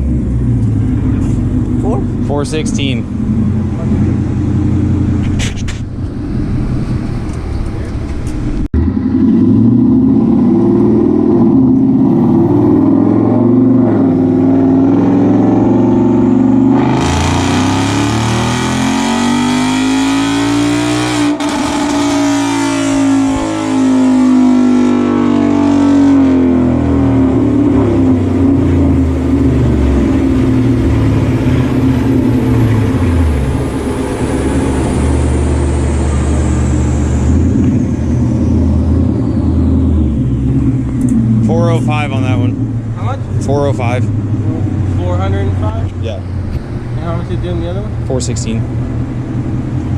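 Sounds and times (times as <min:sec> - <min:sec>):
car engine revving on a dyno: 0:00.0 - 0:49.9
dyno rollers whining: 0:00.0 - 0:49.9.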